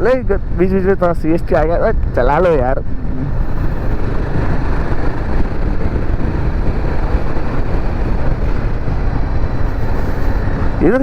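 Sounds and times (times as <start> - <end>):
motorcycle engine and road noise: 0.0 - 11.0
wind rushing over microphone: 0.0 - 11.0.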